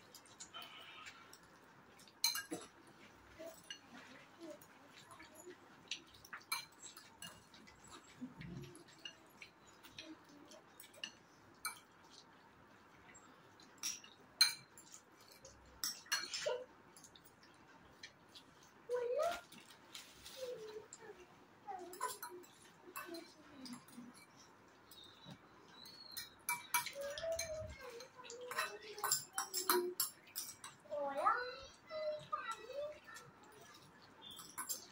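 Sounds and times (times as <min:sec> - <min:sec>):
forks clinking on ceramic bowls: 0:00.1 - 0:12.2, 0:13.6 - 0:18.1, 0:21.8 - 0:30.8, 0:32.2 - 0:34.9.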